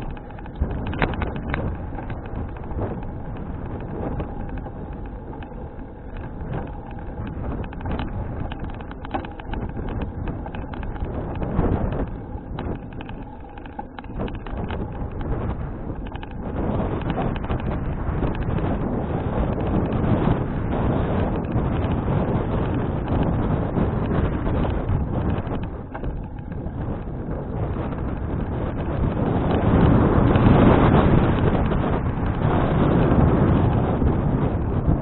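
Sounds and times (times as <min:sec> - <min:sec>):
small clicks and knocks: 0:00.0 - 0:35.0
wind buffeting microphone: 0:00.0 - 0:35.0.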